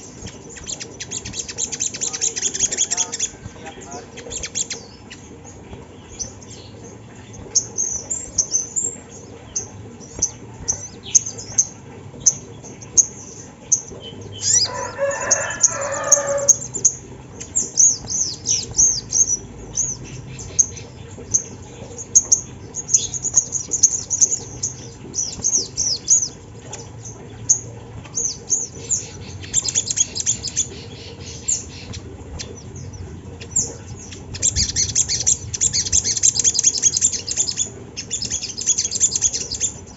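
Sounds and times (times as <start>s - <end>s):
bird high-pitched calls: 0.0s - 39.9s.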